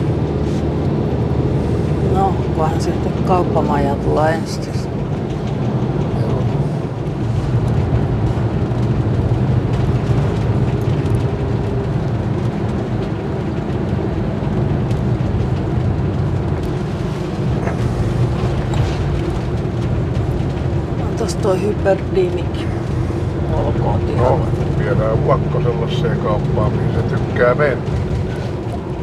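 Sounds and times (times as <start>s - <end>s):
motorhome engine and tyre rumble: 0.0s - 29.0s.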